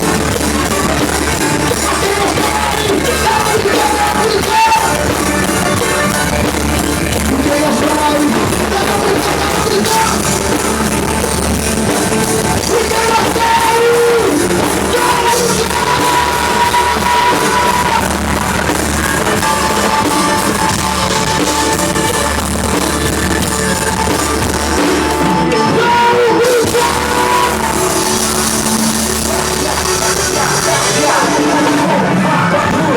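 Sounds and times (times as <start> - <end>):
live band with singer: 0.0 - 32.9.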